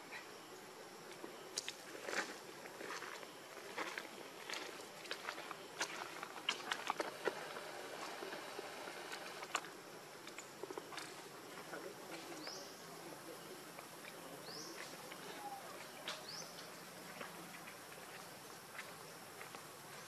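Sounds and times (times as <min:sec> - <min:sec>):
insect hum: 0:00.0 - 0:20.0.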